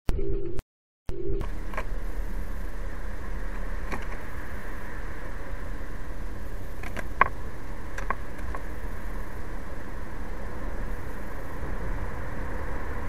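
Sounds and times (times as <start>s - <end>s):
low rumble and hiss: 1.4s - 13.0s.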